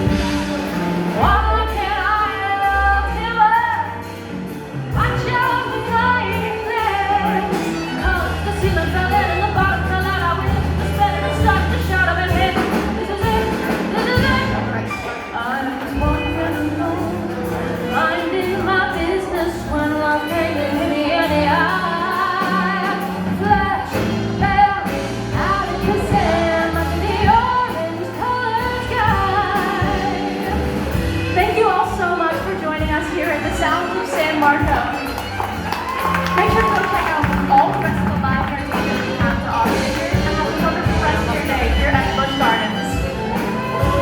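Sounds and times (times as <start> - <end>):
walking bass line: 0.0 - 14.9, 15.9 - 44.0
jazz band playing: 0.0 - 44.0.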